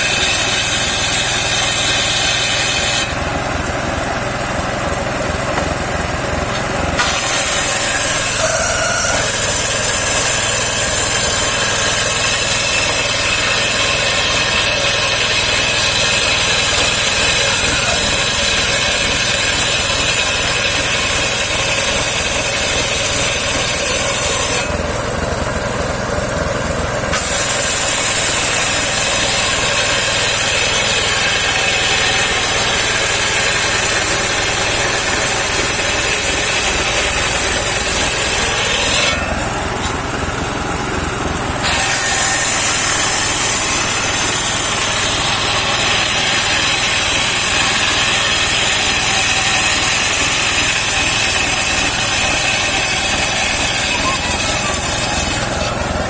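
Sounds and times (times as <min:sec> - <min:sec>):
engine droning: 0:00.0 - 0:56.0
saw blade cutting wood: 0:00.0 - 0:56.0.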